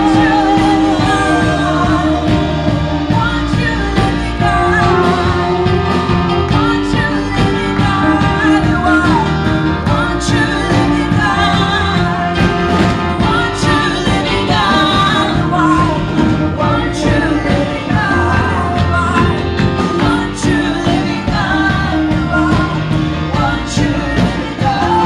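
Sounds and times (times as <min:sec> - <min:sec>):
drum beat: 0:00.0 - 0:25.0
held chords and bass: 0:00.0 - 0:25.0
voices singing: 0:00.0 - 0:25.0.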